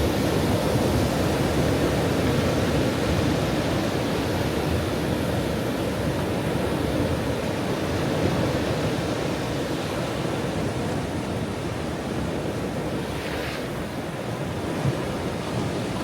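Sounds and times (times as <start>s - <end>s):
ocean surf washing on shore: 0.0s - 16.0s.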